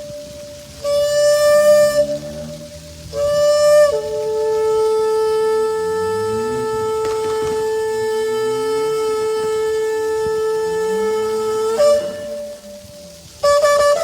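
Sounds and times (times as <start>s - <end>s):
ram's-horn trumpet held note: 0.0s - 14.0s.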